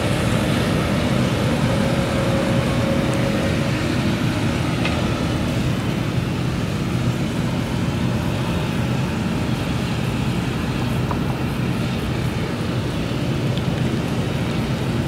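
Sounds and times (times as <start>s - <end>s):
harvester engine running: 0.0s - 15.0s
tractor engine: 0.0s - 15.0s.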